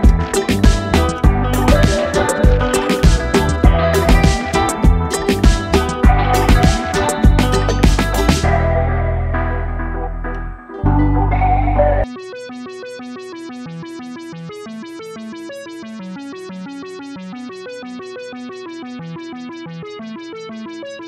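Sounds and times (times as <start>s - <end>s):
electronic music with heavy bass: 0.0s - 17.8s
quick keyboard-like notes: 0.0s - 18.4s.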